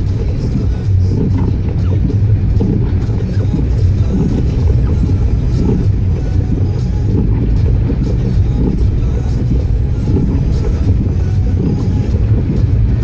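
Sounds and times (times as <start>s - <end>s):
loud low rumbling: 0.0s - 13.0s.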